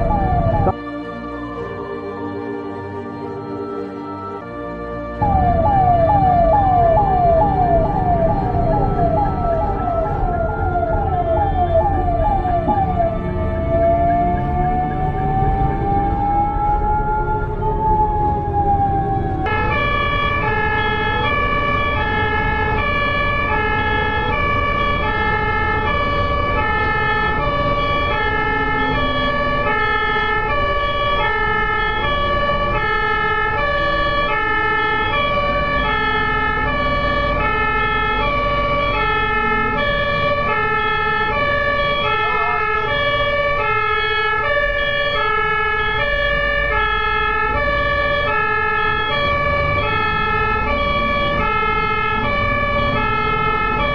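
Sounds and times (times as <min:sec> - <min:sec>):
ambulance two-tone siren: 0:00.0 - 0:53.9
vehicle engine and road rumble: 0:00.0 - 0:53.9.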